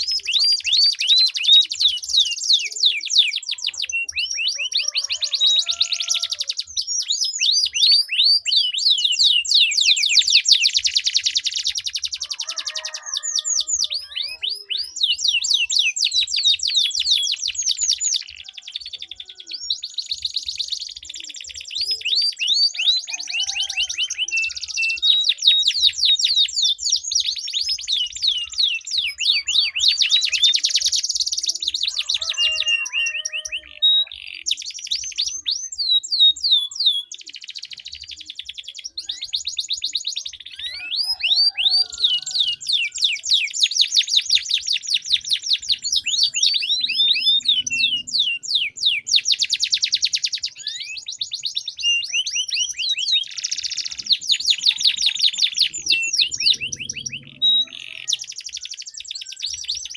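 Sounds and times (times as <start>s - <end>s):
canaries singing trills: 0.0s - 59.9s.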